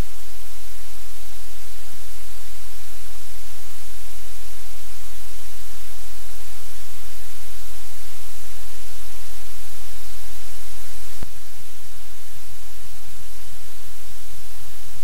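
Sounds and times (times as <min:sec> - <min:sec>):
low electrical hum: 0:00.0 - 0:15.0
static hiss: 0:00.0 - 0:15.0.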